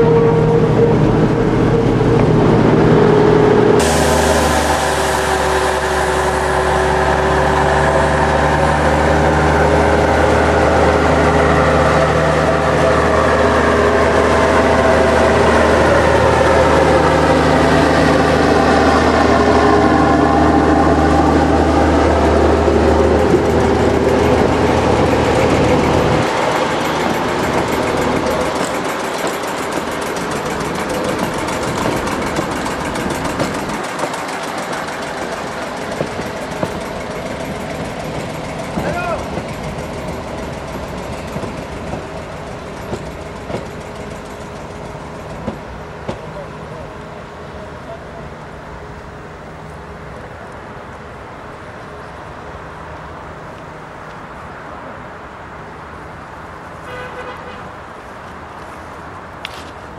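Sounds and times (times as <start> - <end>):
low hum: 0.0 - 49.9
metro train passing slowly: 0.0 - 59.9.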